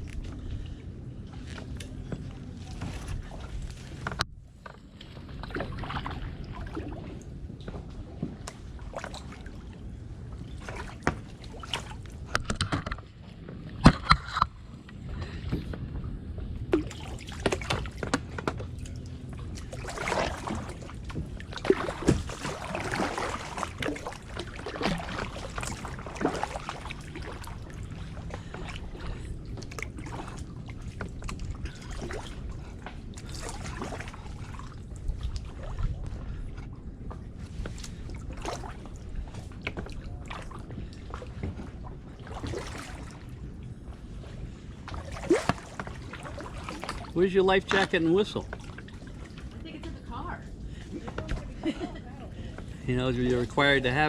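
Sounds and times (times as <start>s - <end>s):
paddle splashing and dripping: 0.0s - 54.0s.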